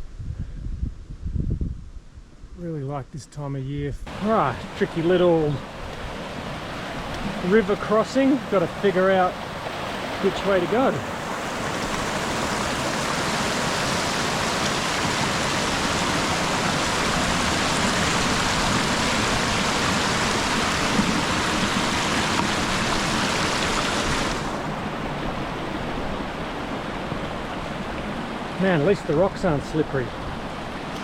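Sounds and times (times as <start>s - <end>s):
river rushing over rocks: 4.1s - 31.0s.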